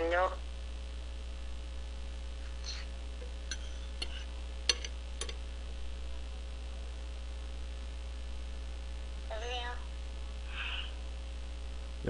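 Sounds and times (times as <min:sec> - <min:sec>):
low mains hum: 0:00.0 - 0:12.0.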